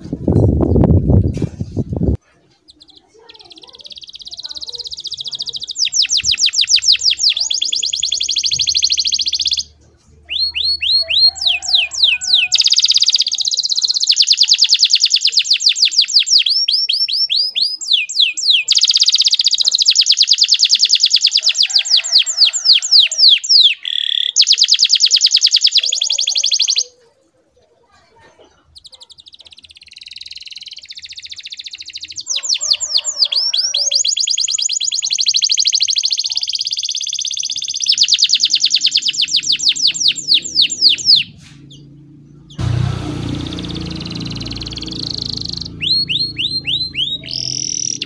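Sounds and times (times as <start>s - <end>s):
canary singing: 0.0s - 27.1s, 28.5s - 48.0s.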